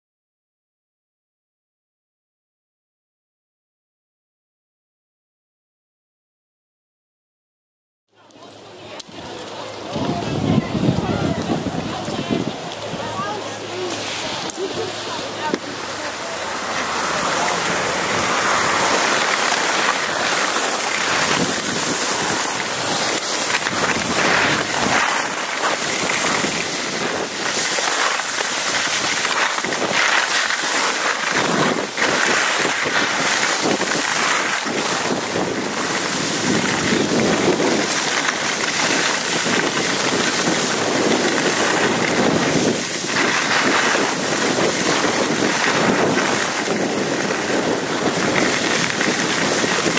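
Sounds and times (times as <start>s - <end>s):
skis carving on snow: 8.9s - 49.9s
wind on microphone: 9.2s - 49.9s.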